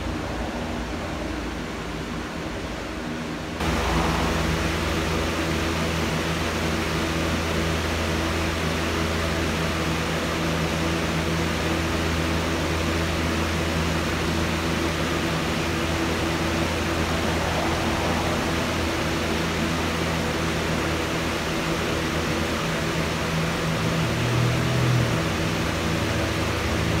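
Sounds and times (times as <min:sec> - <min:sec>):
constant low hum: 0:00.0 - 0:27.0.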